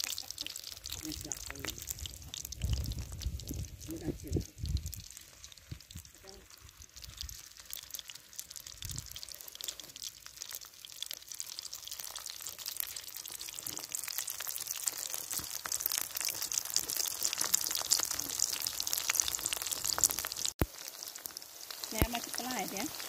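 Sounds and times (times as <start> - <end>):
food frying in hot oil: 0.0 - 23.0.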